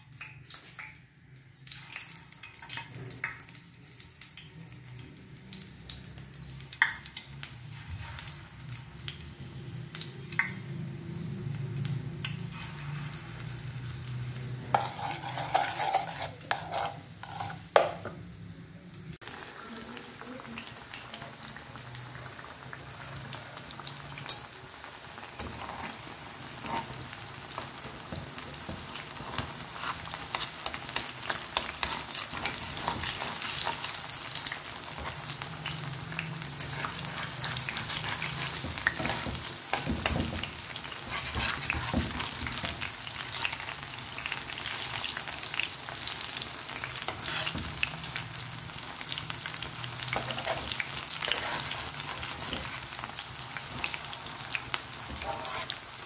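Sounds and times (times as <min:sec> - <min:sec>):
deep-frying sizzle with crackling: 0:00.0 - 0:56.0.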